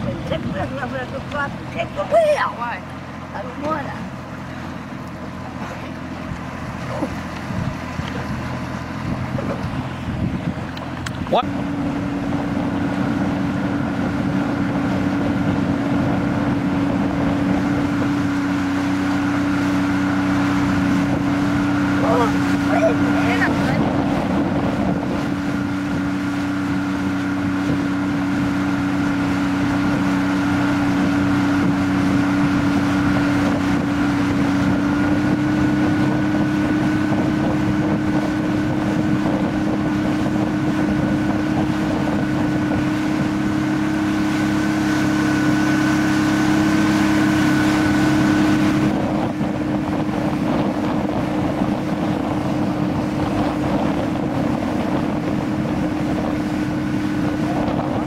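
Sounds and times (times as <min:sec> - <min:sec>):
boat motor humming and whining: 0:00.0 - 0:58.0
wind buffeting microphone: 0:00.0 - 0:58.0.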